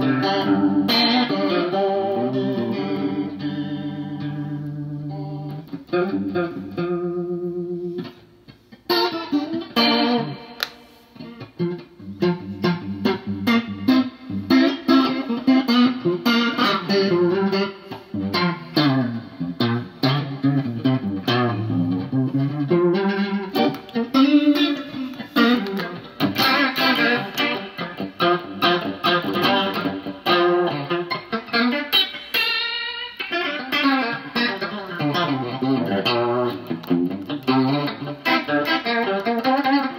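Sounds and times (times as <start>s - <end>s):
electric guitar with rotary effect: 0.0s - 39.9s.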